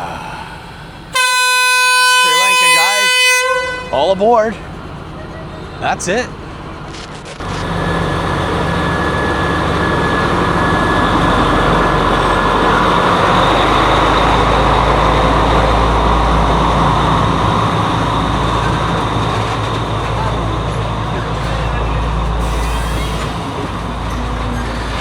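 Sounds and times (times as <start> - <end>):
train rumbling along track: 0.0 - 25.0.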